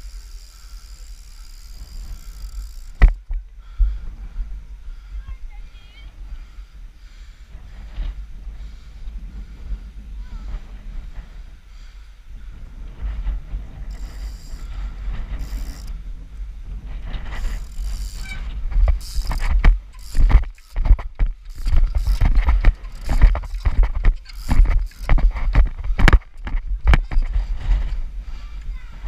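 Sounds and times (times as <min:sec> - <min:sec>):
bicycle frame and chain rattle: 0:00.0 - 0:03.4, 0:07.6 - 0:29.0
bicycle tyres rolling on paving: 0:00.0 - 0:05.2, 0:06.1 - 0:29.0.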